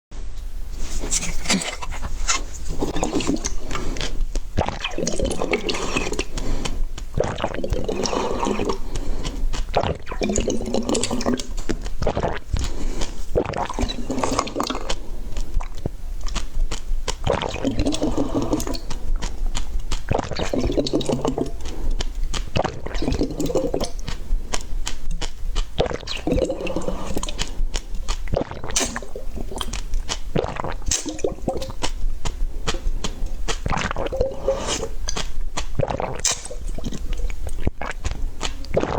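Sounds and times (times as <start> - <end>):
wet chewing of food: 0.8 - 38.9.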